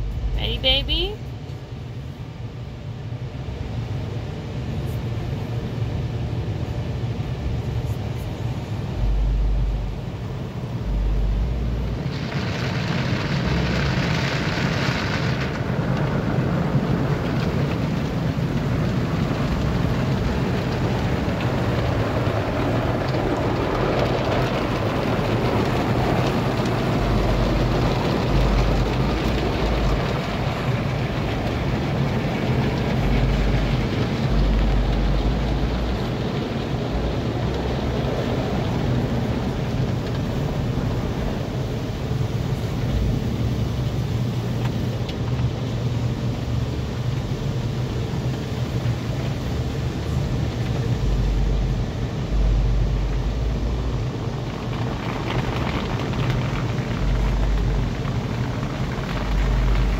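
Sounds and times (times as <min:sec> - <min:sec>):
car wash machinery rumble: 0:00.0 - 0:59.9
water spraying on car body: 0:03.8 - 0:59.9.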